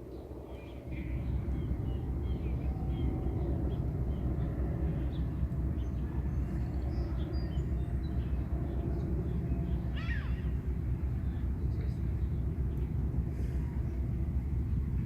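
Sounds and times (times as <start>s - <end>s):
small birds chirping: 0.0s - 14.9s
propeller airplane droning: 0.0s - 15.0s.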